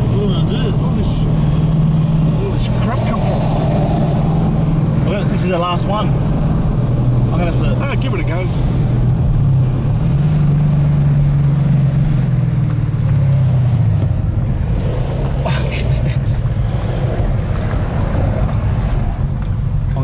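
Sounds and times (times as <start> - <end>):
car engine drone from inside cabin: 0.0 - 20.0.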